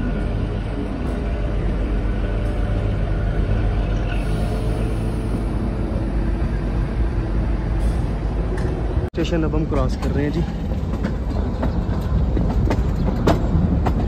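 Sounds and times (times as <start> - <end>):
train wheels and engine rumbling: 0.0 - 14.0.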